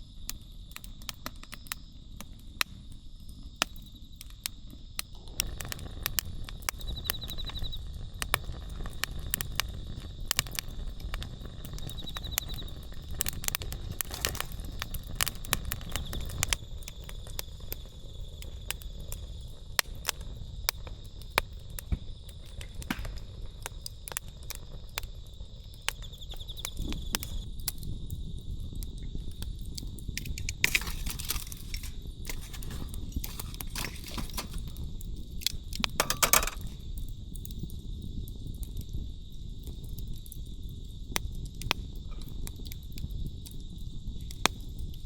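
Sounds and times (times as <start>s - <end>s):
campfire crackling and popping: 0.0s - 45.0s
insects chirping: 0.0s - 45.0s.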